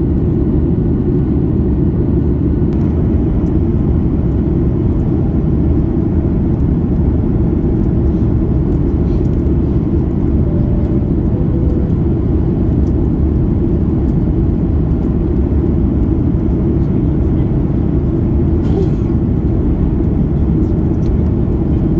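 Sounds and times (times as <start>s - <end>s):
airflow over aircraft fuselage: 0.0s - 21.9s
jet engine hum: 0.0s - 21.9s.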